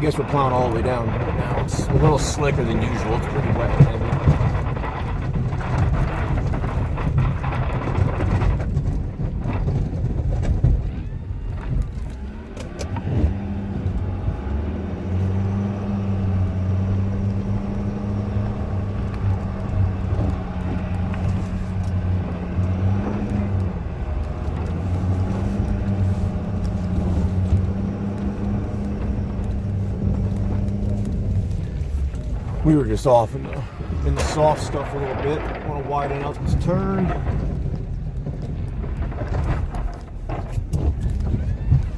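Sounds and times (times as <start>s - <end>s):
diesel engine under load: 0.0s - 41.9s
plow scraping snow: 0.0s - 41.9s.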